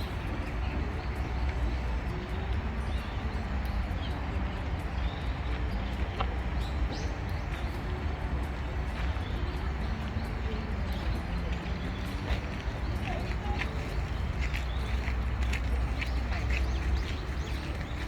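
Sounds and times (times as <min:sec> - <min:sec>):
footsteps on a path: 0:00.0 - 0:18.0.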